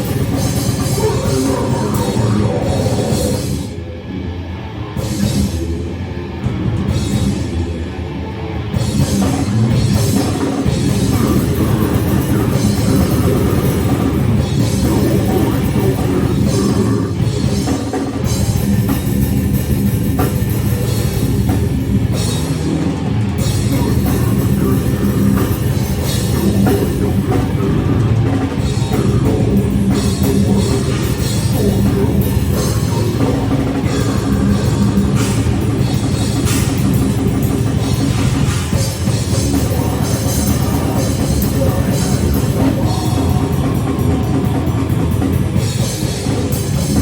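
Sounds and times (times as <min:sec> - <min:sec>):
heavy rock music: 0:00.0 - 0:47.0.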